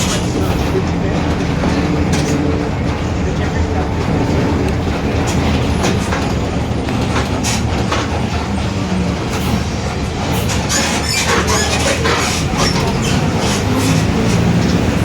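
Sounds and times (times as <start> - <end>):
bus engine drone: 0.0 - 15.0
rattles and clatters: 0.0 - 15.0.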